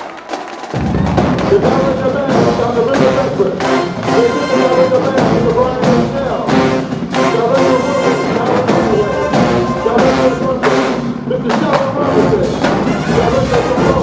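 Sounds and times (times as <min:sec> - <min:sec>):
marching drum hits: 0:00.0 - 0:14.0
brass horns playing tune: 0:01.0 - 0:14.0.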